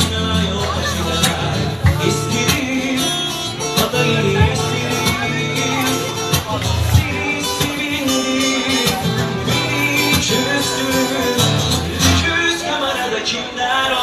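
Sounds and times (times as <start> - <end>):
live band with guitar: 0.0 - 14.0.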